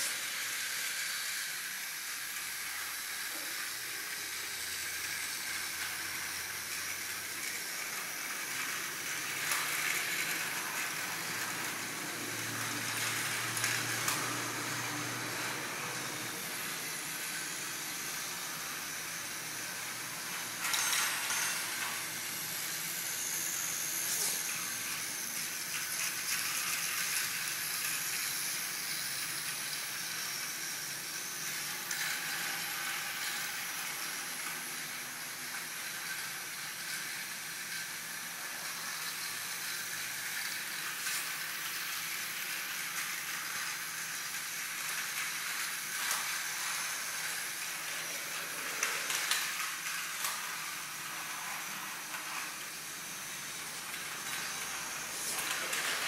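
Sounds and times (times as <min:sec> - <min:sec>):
steady hissing noise: 0:00.0 - 0:56.0.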